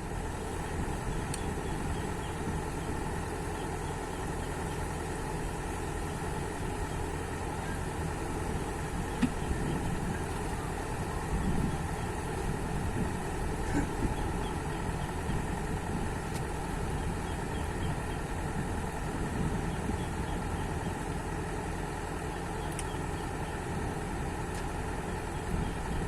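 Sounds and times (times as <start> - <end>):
heavy machine engine idling: 0.0 - 26.0.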